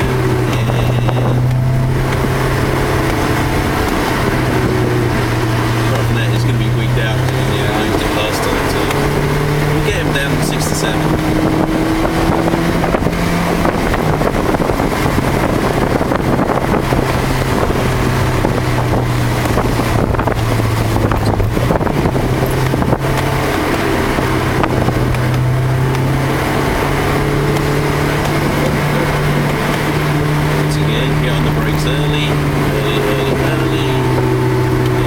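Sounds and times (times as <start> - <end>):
car engine pulling hard: 0.0 - 35.0
wind and road noise: 0.0 - 35.0.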